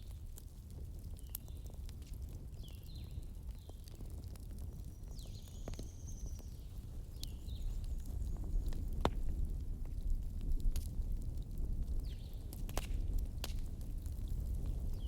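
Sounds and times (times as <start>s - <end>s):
fire crackling: 0.0s - 15.0s
low rumble of fire burning: 0.0s - 15.0s.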